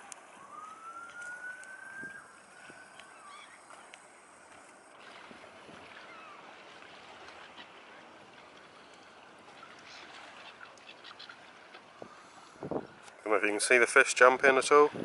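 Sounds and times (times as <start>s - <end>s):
water washing: 0.0s - 12.5s
distant gulls calling: 0.0s - 13.3s.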